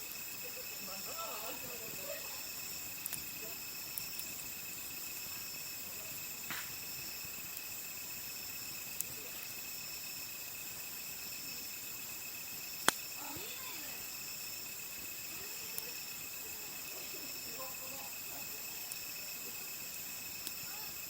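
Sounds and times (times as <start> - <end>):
crickets trilling: 0.0 - 21.0
wood fire crackling: 0.0 - 21.0.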